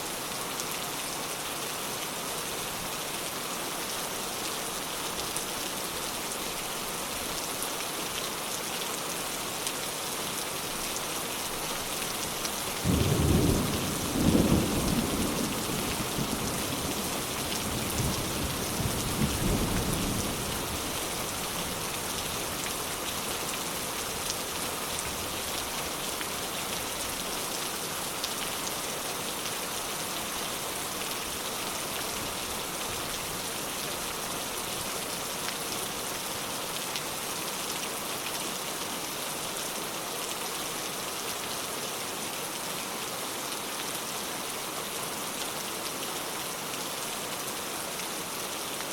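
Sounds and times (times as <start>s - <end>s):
steady rain hissing: 0.0s - 48.9s.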